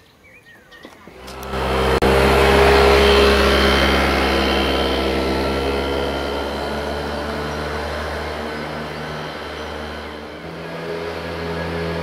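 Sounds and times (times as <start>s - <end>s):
scooter engine buzzing: 1.0s - 12.0s.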